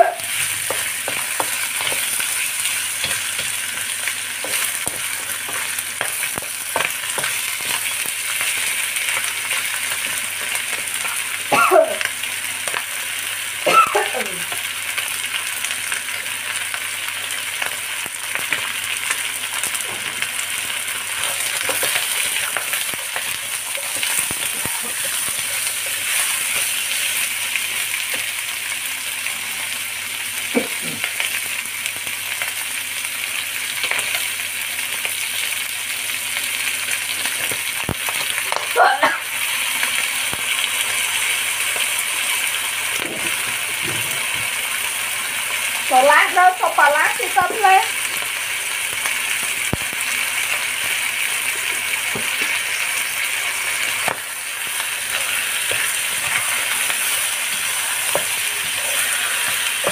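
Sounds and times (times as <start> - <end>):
chicken wings sizzling in a wok: 0.0 - 59.9.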